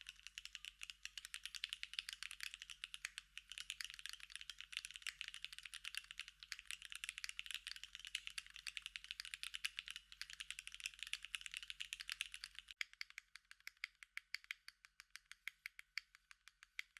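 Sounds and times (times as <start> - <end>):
mechanical keyboard typing: 0.0 - 15.9.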